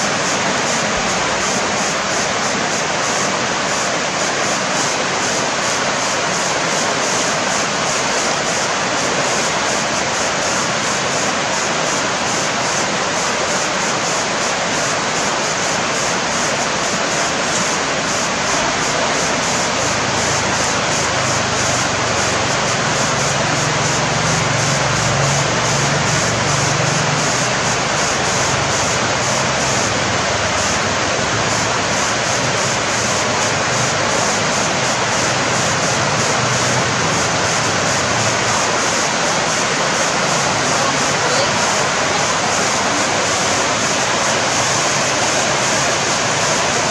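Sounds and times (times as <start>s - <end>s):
river water rushing: 0.0s - 46.9s.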